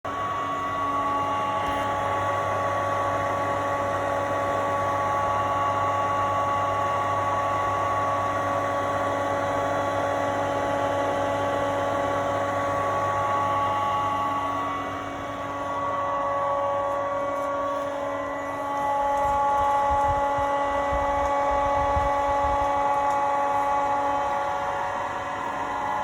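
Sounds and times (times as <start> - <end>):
pump motor humming: 0.1 - 26.0.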